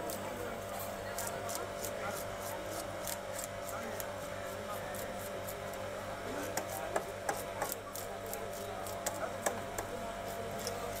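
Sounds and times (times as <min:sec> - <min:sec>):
knife scraping fish scales: 0:00.0 - 0:09.3, 0:10.2 - 0:11.0.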